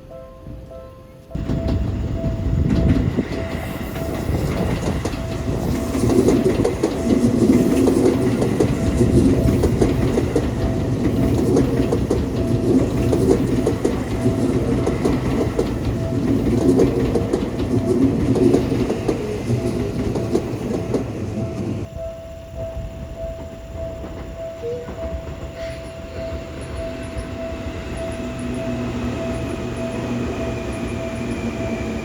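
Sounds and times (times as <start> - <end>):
train wheels clattering: 1.3 - 22.0, 22.6 - 32.0
level crossing warning bell: 1.3 - 32.0.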